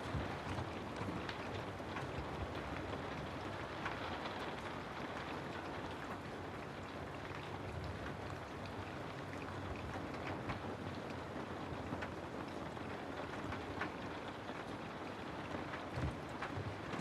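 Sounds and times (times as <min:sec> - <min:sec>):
rain pattering on house: 0:00.0 - 0:17.0.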